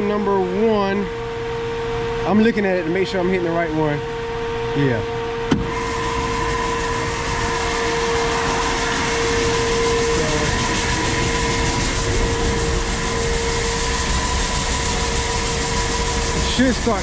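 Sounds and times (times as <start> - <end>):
conveying machinery humming: 0.0 - 17.0.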